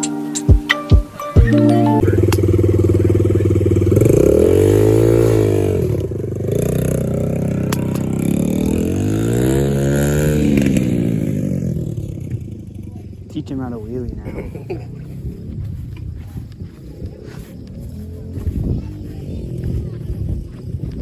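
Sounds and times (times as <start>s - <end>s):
dirt bike engine revving: 2.0s - 21.0s.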